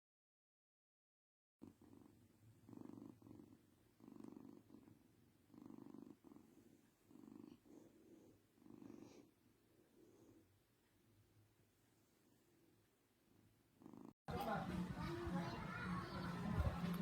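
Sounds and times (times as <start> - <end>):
cat purring: 1.6 - 17.0.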